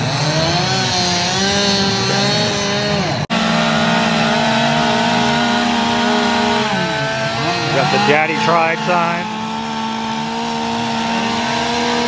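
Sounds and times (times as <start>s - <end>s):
chainsaws cutting wood: 0.0s - 12.0s.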